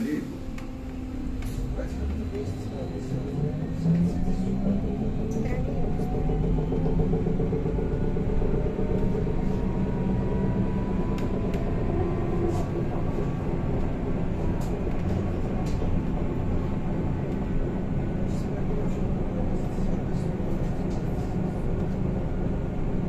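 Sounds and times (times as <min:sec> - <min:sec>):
bus ride rumble: 0:00.0 - 0:23.0.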